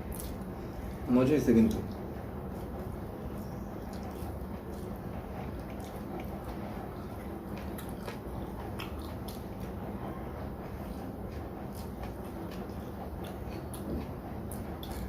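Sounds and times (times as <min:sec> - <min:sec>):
person chewing food: 0:00.0 - 0:00.8, 0:01.9 - 0:15.0
low background hum: 0:00.0 - 0:15.0.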